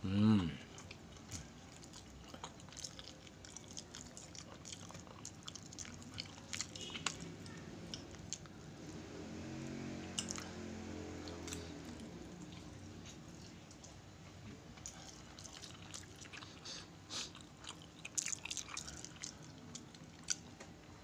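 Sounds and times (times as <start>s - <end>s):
chewing sticky food: 0.6s - 21.0s.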